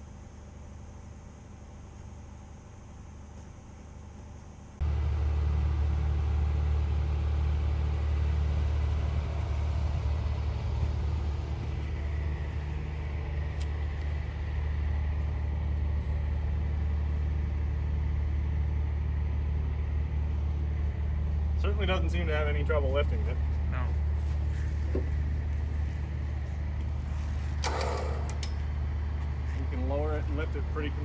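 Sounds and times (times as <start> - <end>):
crane hoist motor humming: 3.4 - 31.0.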